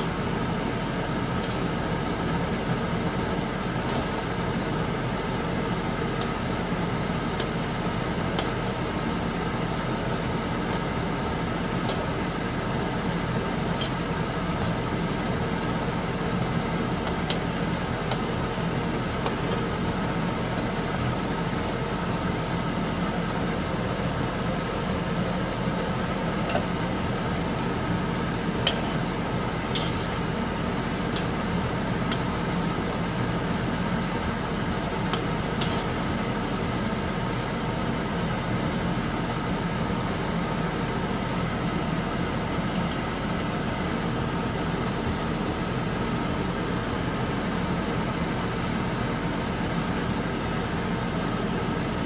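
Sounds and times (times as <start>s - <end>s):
kitchen fan whirring hum: 0.0s - 52.0s.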